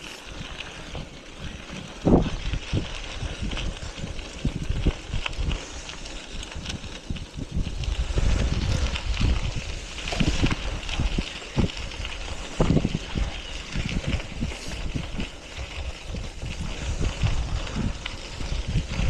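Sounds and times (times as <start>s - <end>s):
small knocks and ticks from bicycle: 0.0s - 19.0s
wind buffeting microphone: 0.0s - 19.0s.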